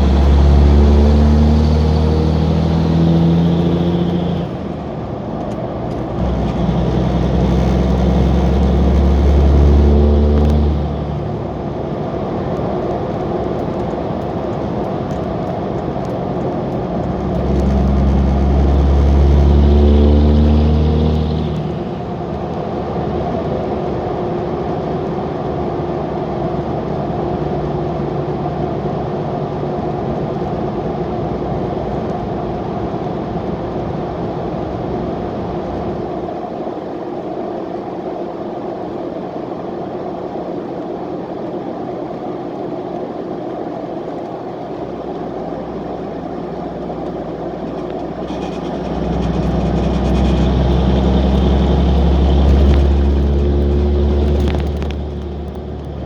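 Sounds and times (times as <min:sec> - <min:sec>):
diesel exhaust drone while driving: 0:00.0 - 0:36.6, 0:40.9 - 0:56.0.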